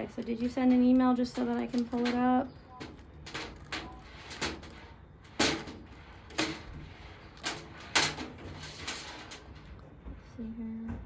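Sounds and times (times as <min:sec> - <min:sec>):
metallic scrapes and clacks: 0:00.1 - 0:09.8.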